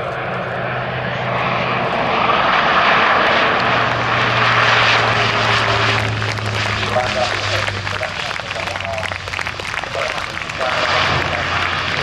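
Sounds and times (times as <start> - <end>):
propeller hum: 0.0 - 12.0
rushing engine noise: 0.0 - 12.0.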